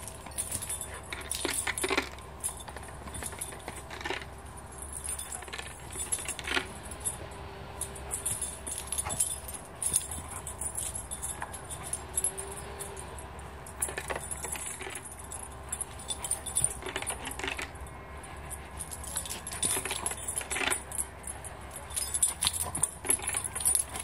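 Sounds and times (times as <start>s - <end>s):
dog tags jingling: 0.0s - 24.0s.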